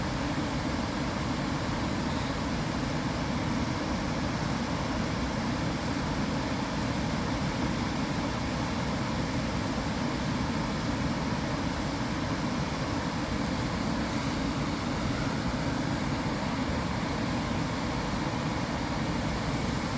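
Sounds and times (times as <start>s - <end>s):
white noise rush: 0.0s - 19.9s.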